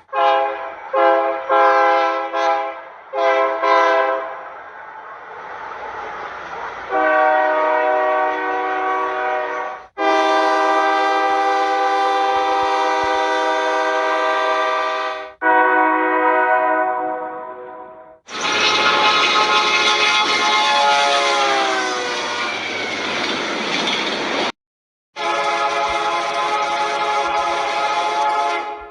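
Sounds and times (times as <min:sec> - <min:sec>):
locomotive air horn blasts: 0:00.0 - 0:04.3, 0:06.9 - 0:22.6, 0:25.2 - 0:28.9.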